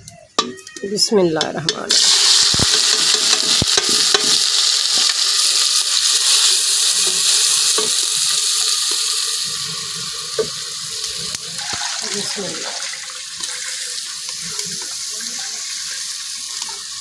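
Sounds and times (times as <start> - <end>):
food sizzling in hot oil: 1.8 - 17.0
utensil stirring in pan: 1.9 - 17.0.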